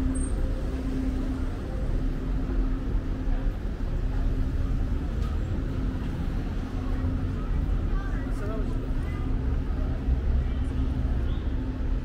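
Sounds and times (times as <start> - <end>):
faint engine hum: 0.0 - 12.0.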